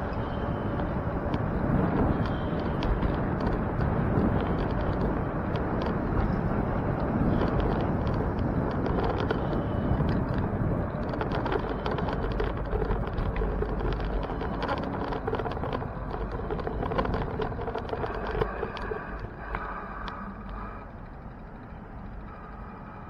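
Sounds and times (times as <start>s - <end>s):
small clicks and rattles: 0.0s - 22.8s
wind and road rush: 0.0s - 23.0s.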